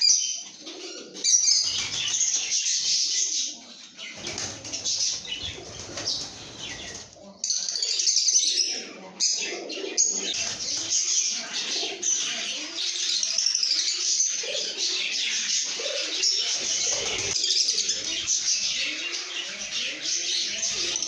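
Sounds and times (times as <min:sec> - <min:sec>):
flock of birds chattering and chirping: 0:00.0 - 0:21.0.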